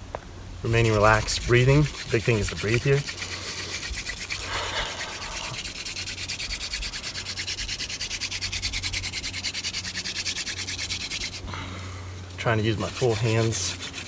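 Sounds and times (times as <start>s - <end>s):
wooden spindle grinding on board: 0.7s - 11.6s, 12.3s - 14.0s.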